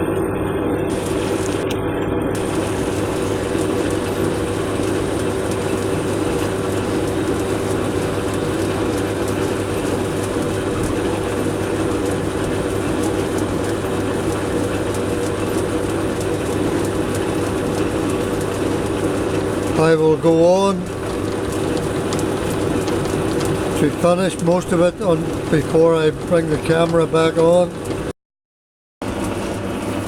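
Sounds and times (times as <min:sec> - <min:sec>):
machine hum: 0:00.0 - 0:28.1
metal lathe cutting metal bar: 0:00.5 - 0:28.1.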